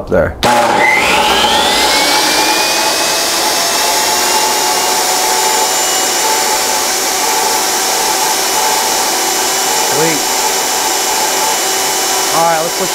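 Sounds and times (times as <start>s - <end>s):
table saw whining: 0.4s - 12.9s.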